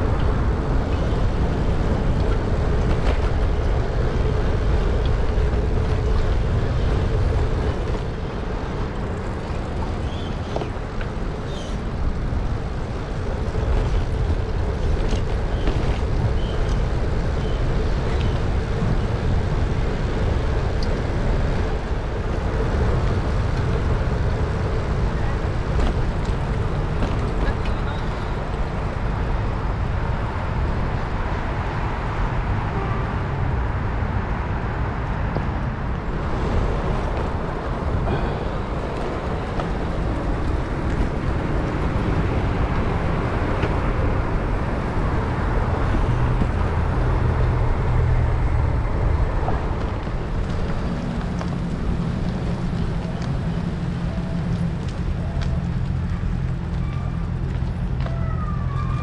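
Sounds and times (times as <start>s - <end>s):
low engine hum: 0.0s - 59.0s
road traffic: 0.0s - 59.0s
wind rumbling on microphone: 0.0s - 59.0s.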